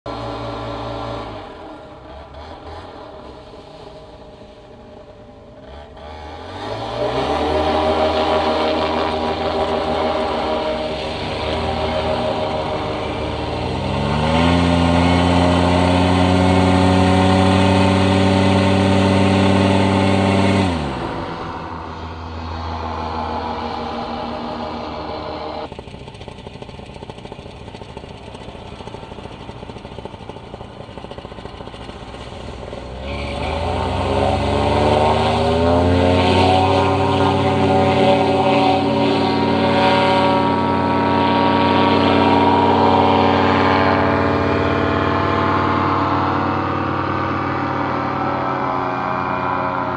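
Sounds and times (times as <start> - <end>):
paramotor engine running: 0.1 - 49.9.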